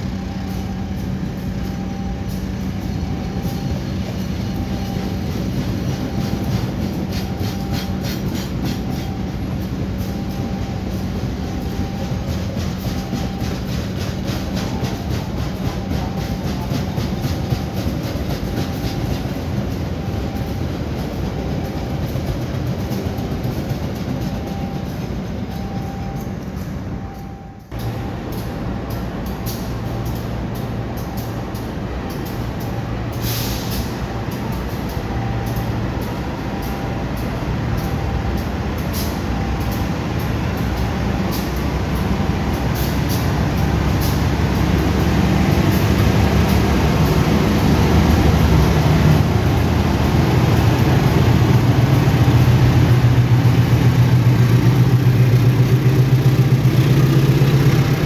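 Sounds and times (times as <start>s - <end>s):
diesel locomotive engine drone: 0.0s - 58.0s
train rolling noise: 0.0s - 58.0s.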